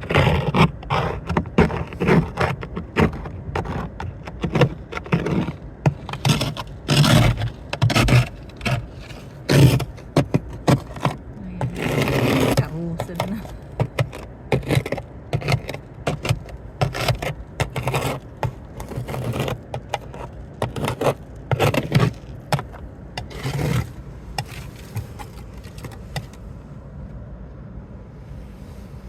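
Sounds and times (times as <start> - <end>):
ice scraper scraping car: 0.0 - 26.5
low steady hum: 0.0 - 29.0.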